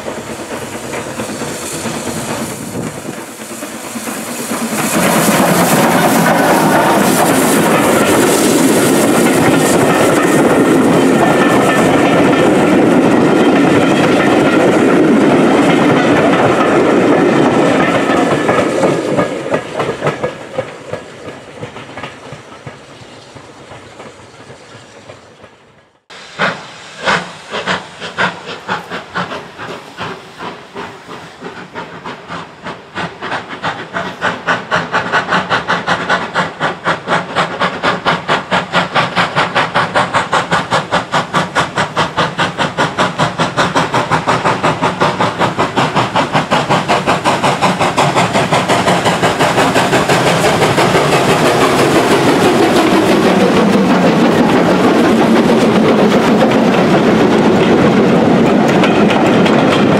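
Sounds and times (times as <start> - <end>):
rail noise: 0.0 - 59.9
steam hiss: 0.0 - 59.9
steam locomotive exhaust beats: 0.0 - 59.9.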